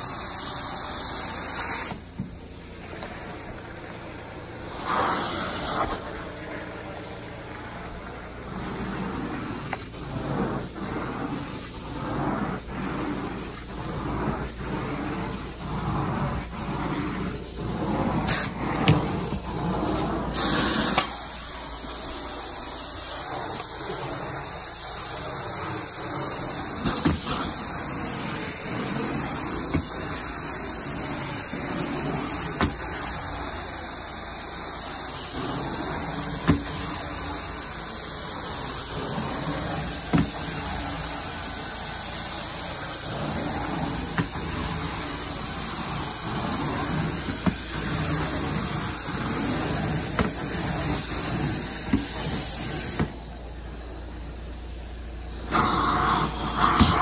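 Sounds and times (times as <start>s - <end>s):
carpet cleaning machine hissing: 0.0s - 57.0s.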